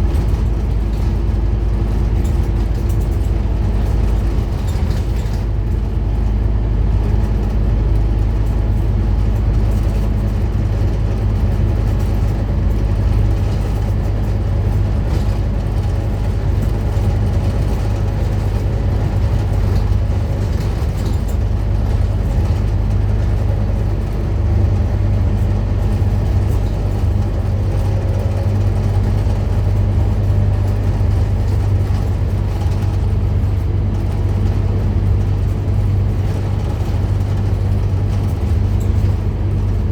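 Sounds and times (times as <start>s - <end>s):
bus diesel engine drone: 0.0s - 39.9s
road noise: 0.0s - 39.9s.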